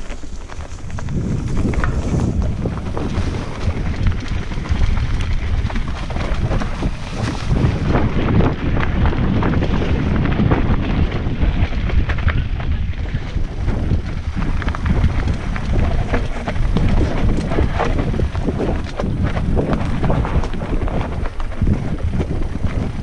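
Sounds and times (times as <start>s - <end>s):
bike clicks and knocks: 0.0s - 23.0s
wind buffeting microphone: 0.0s - 23.0s.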